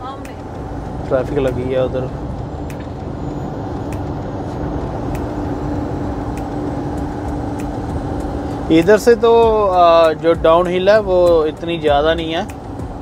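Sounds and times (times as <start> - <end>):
constant hum: 0.0 - 13.0
truck engine and road drone: 0.0 - 13.0.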